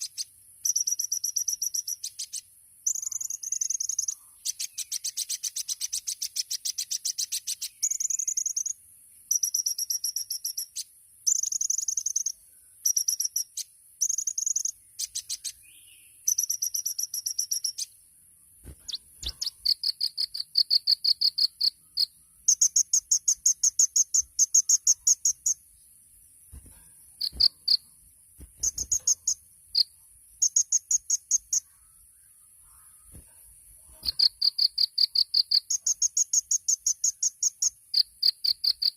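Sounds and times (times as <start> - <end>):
insect trill: 0.0 - 15.6, 16.2 - 17.9, 18.9 - 25.9, 26.5 - 28.0, 28.6 - 31.8, 33.9 - 38.9
bird singing fast trilled chirps: 0.0 - 18.0, 18.7 - 25.9, 27.1 - 27.9, 28.6 - 31.7, 34.0 - 38.9.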